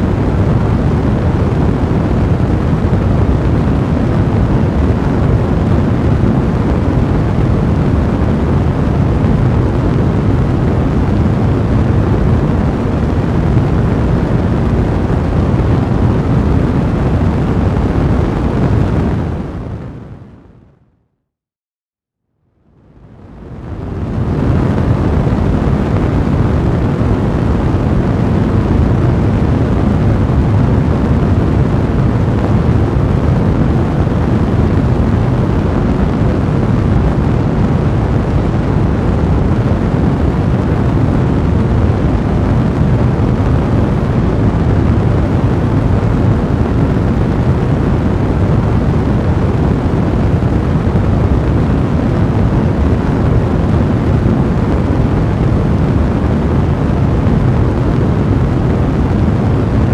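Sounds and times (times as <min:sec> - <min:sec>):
fire roaring: 0:00.0 - 0:20.3, 0:22.9 - 0:59.9.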